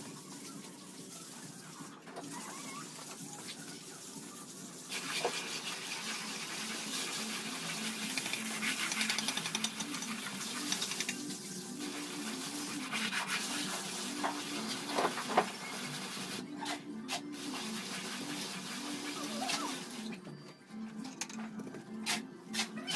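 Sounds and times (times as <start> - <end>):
soft background melody: 0.0 - 22.9.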